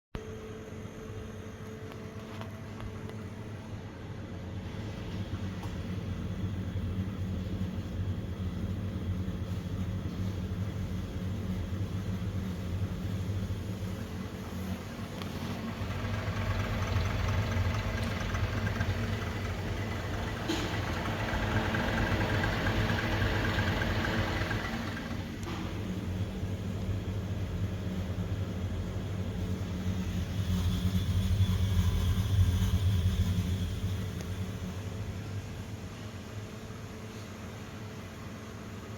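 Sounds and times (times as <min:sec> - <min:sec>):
refrigeration compressor hum: 0:00.2 - 0:38.9.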